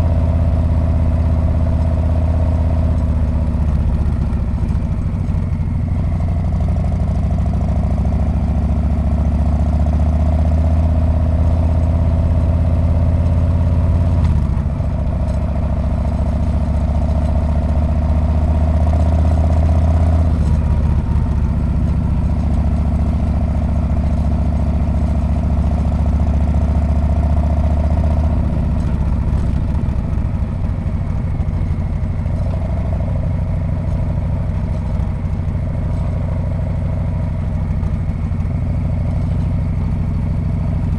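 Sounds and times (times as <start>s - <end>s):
motorcycle engine low rumble: 0.0s - 40.9s.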